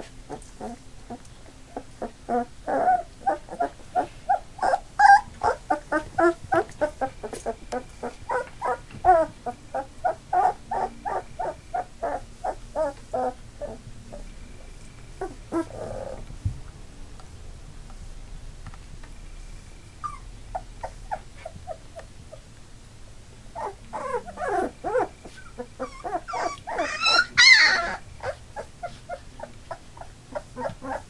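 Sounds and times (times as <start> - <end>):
puppies whining: 0.0 - 14.4, 15.2 - 16.3, 20.0 - 22.4, 23.5 - 31.0.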